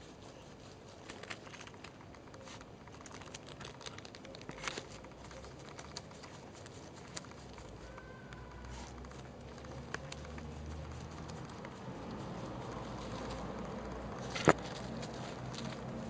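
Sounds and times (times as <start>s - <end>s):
puppy claws scratching soil: 0.0s - 16.0s.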